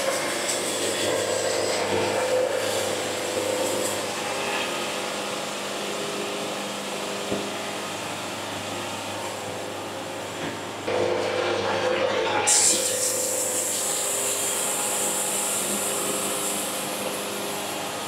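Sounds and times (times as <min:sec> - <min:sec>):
band sawmill drone: 0:00.0 - 0:18.0.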